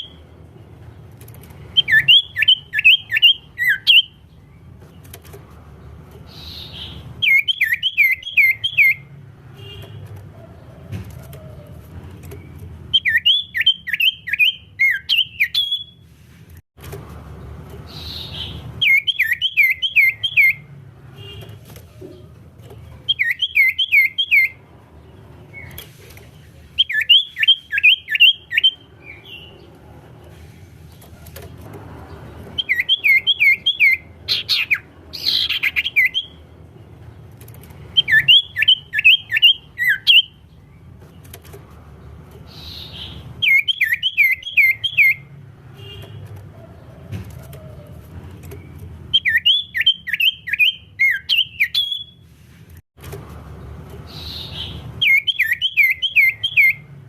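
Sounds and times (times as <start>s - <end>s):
songbird singing: 0.0s - 16.0s, 17.4s - 52.2s, 53.6s - 57.0s.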